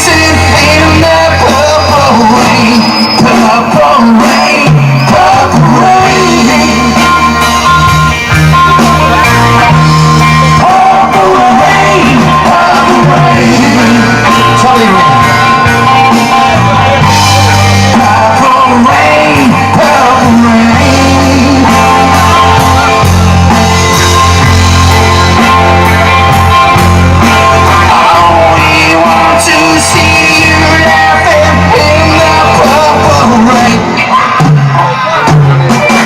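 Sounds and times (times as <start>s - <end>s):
person singing: 0.0s - 23.2s, 27.2s - 36.0s
rock band playing live: 0.0s - 36.0s.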